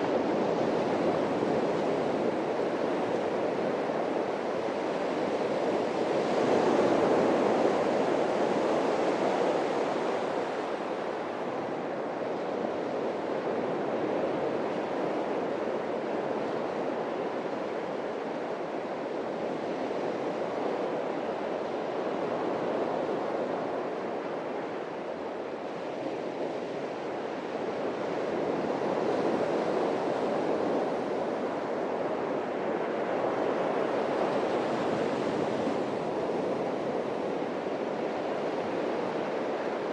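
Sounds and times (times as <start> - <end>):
surf waves breaking on beach: 0.0 - 39.9.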